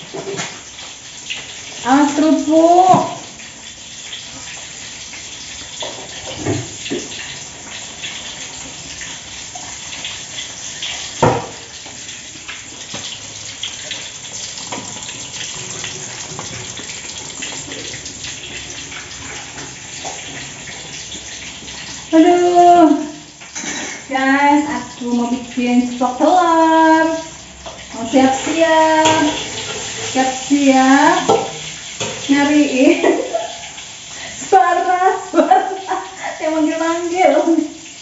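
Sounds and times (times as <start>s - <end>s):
egg sizzling in oil: 0.0s - 38.0s.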